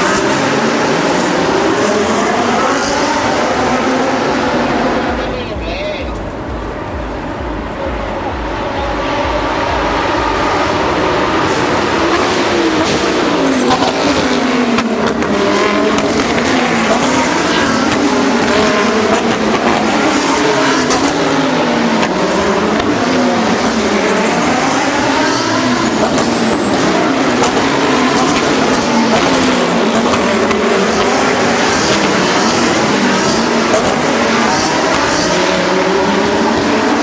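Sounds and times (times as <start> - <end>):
race car engines accelerating: 0.0 - 37.0.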